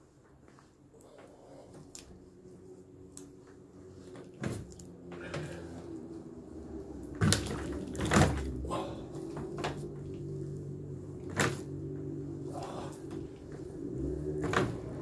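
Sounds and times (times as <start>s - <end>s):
low hum: 1.0s - 15.0s.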